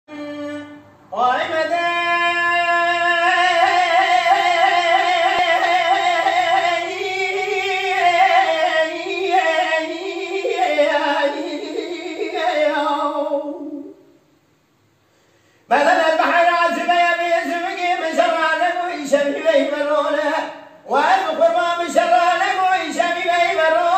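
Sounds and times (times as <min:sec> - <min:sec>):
man singing unaccompanied: 0:00.1 - 0:14.2, 0:15.7 - 0:23.9.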